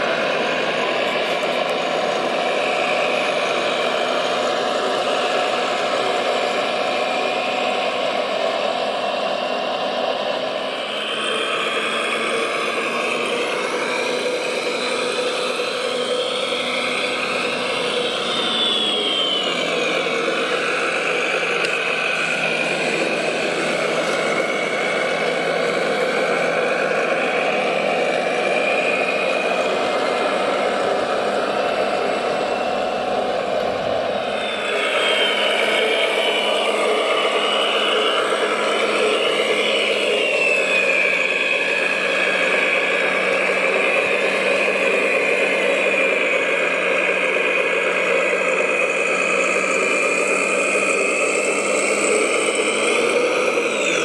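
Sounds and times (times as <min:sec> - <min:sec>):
model truck engine drone: 0:00.0 - 0:54.0
motor whine rising and falling: 0:00.0 - 0:54.0.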